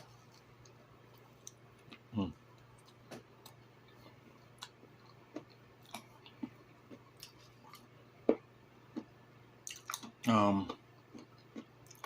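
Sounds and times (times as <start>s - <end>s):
chewing food: 0.0s - 12.0s
faint low hum: 0.0s - 12.0s.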